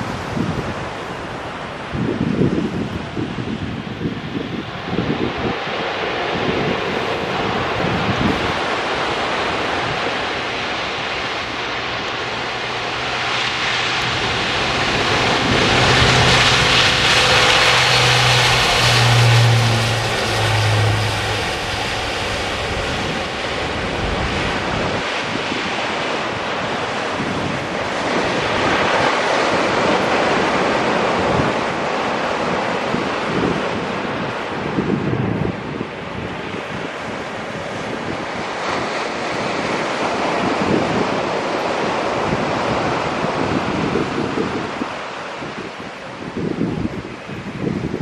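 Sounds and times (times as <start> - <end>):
turboprop aircraft propeller drone: 0.0 - 48.0.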